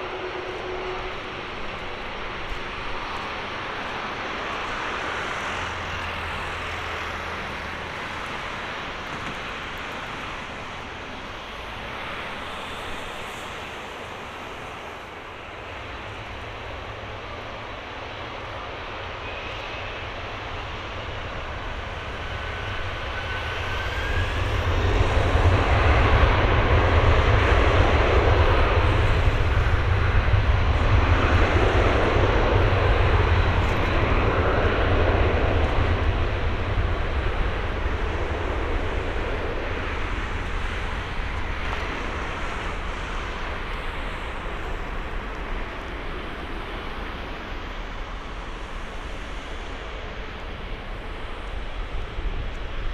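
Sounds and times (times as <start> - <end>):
jet engines roaring on takeoff: 0.0 - 52.9.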